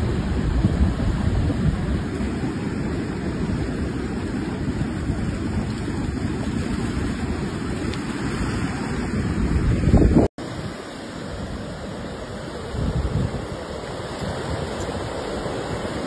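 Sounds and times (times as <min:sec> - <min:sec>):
breaking surf: 0:00.0 - 0:16.0
wind on microphone: 0:00.0 - 0:16.0.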